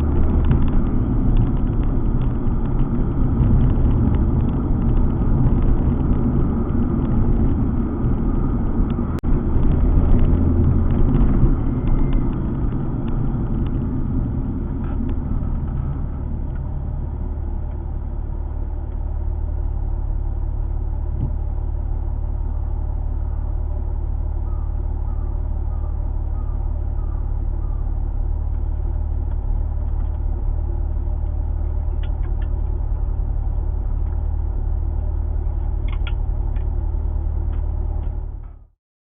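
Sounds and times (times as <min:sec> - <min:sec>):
road noise: 0:00.0 - 0:38.7
car engine rumble: 0:00.0 - 0:38.8.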